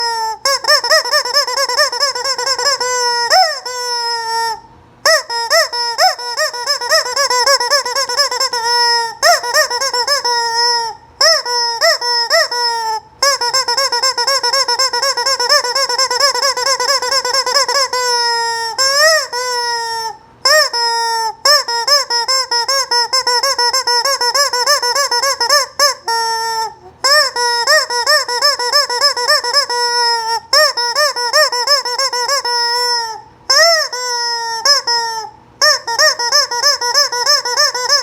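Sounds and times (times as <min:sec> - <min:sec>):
squeaky toy chicken calls: 0:00.0 - 0:38.0.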